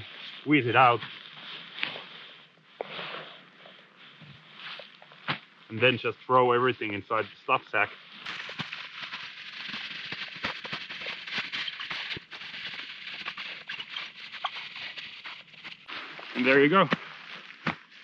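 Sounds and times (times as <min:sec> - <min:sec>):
tent fabric rustling and crackling: 0:00.0 - 0:18.0.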